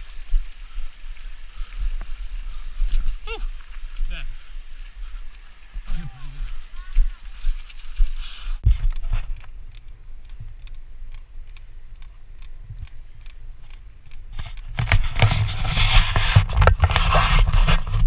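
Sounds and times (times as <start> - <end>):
bike rolling with faint clicks: 0.0 - 6.0, 6.8 - 18.0.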